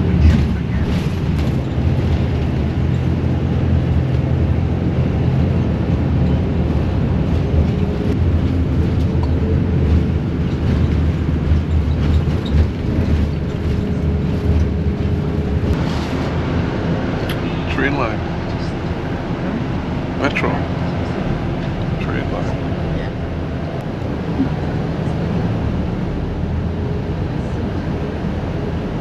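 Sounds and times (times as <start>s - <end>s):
bus engine and road rumble: 0.0s - 29.0s.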